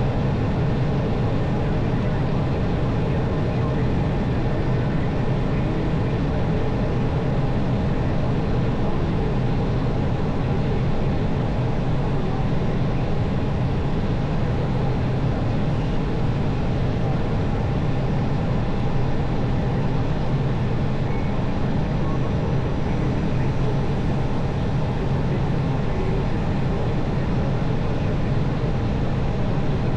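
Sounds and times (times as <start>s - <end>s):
airliner engines and airflow: 0.0s - 29.9s.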